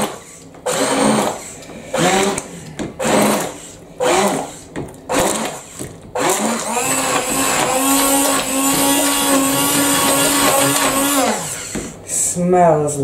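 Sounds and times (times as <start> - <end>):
stick blender running: 0.0 - 12.0.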